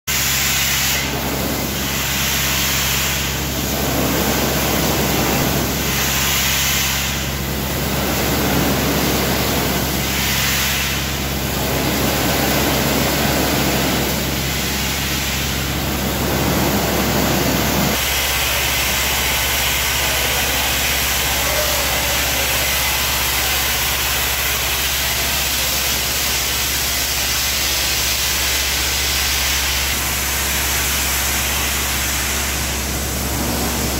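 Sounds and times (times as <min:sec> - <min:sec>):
concrete spray hissing: 0:00.1 - 0:33.9
pumping machinery hum: 0:00.1 - 0:33.9.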